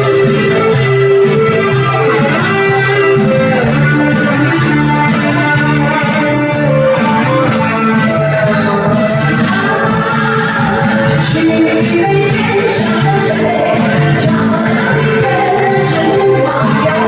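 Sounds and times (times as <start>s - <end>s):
plucked guitar-like melody: 0.0s - 17.0s
steady beat: 0.0s - 17.0s.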